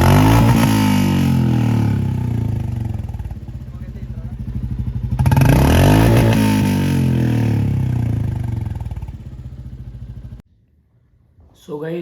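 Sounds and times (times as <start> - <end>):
motorcycle engine and exhaust: 0.0 - 10.4.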